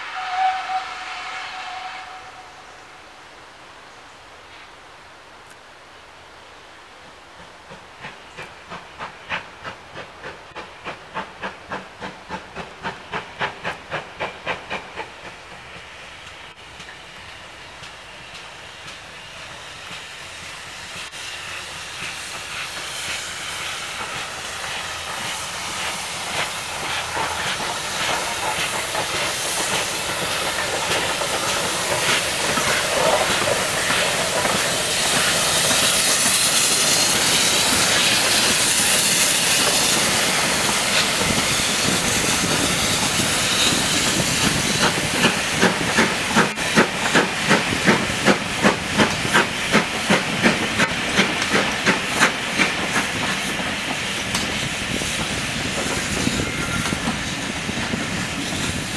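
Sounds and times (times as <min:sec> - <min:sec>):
steam locomotive hissing: 0:00.0 - 0:03.3, 0:07.3 - 0:58.9.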